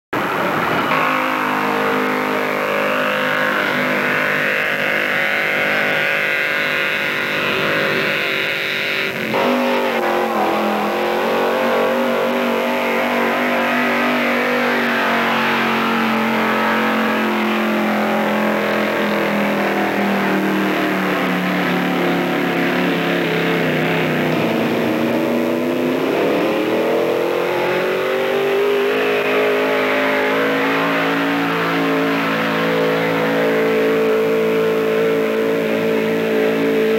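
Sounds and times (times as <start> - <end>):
pickup engine under heavy load: 0.1 - 36.9.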